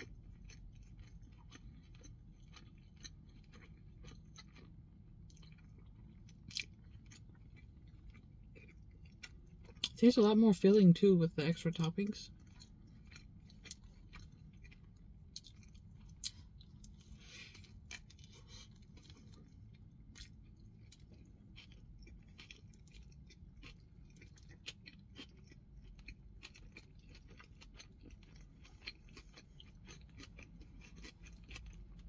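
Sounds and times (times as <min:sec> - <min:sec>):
quiet close chewing: 0:00.0 - 0:10.0, 0:12.3 - 0:32.0.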